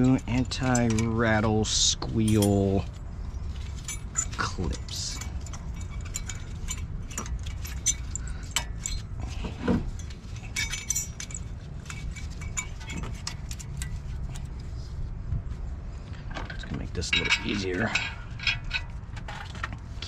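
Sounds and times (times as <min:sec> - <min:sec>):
small metal parts clinking: 0:00.0 - 0:14.6, 0:16.3 - 0:20.0
steady low hum: 0:00.0 - 0:20.0.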